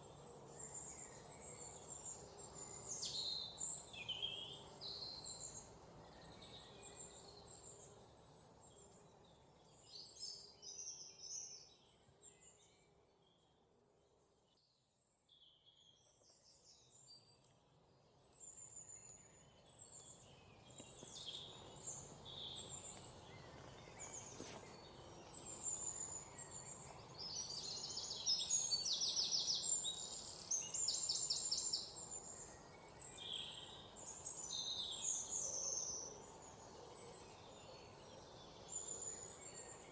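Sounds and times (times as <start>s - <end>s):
songbirds chirping and singing: 0.0s - 13.6s, 14.6s - 39.9s
soft outdoor hiss: 0.0s - 39.9s.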